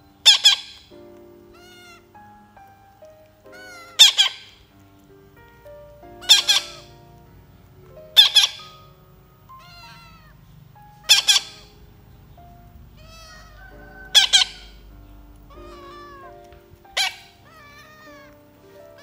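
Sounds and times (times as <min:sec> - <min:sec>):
background music: 0:00.0 - 0:19.0
parrot squawking: 0:00.2 - 0:02.5, 0:03.4 - 0:04.8, 0:06.0 - 0:07.2, 0:08.0 - 0:19.0.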